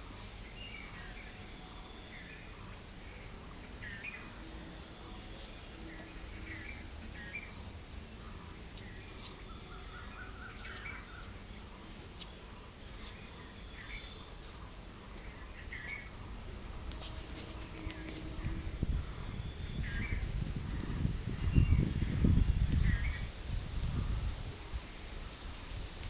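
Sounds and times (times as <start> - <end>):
low outdoor background noise: 0.0 - 26.0
small birds chirping: 0.0 - 26.0.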